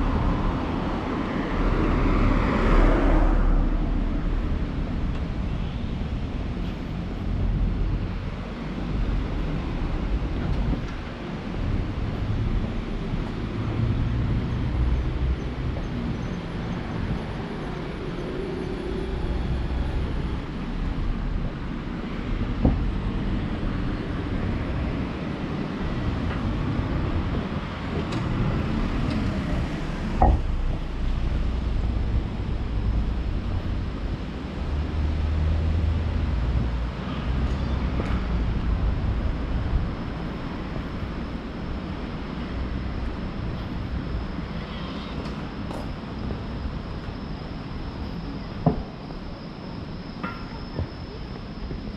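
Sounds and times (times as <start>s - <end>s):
passing vehicle traffic rumble: 0.0s - 49.1s.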